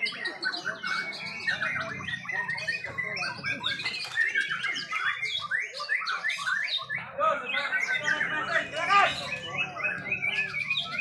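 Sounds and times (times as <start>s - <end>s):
birds singing: 0.0s - 11.0s
low background murmur: 0.0s - 11.0s.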